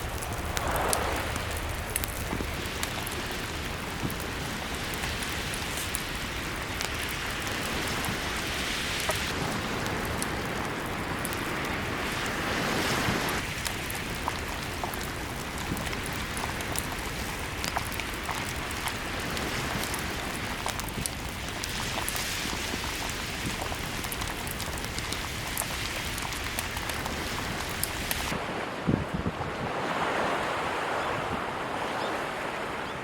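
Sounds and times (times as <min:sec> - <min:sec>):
campfire wood crackling: 0:00.0 - 0:28.4
surf washing: 0:00.0 - 0:33.0.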